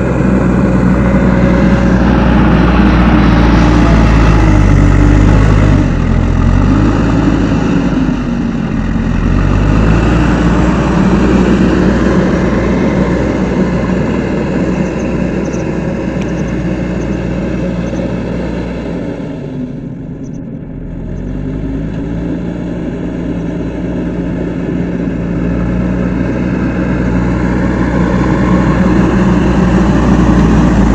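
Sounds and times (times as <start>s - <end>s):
backhoe diesel engine running: 0.0s - 30.9s.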